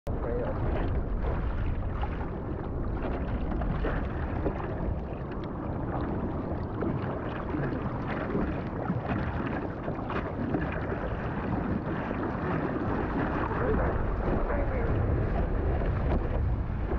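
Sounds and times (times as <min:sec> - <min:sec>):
wind on microphone: 0:00.1 - 0:16.9
water splashing against surfboard: 0:00.2 - 0:16.9.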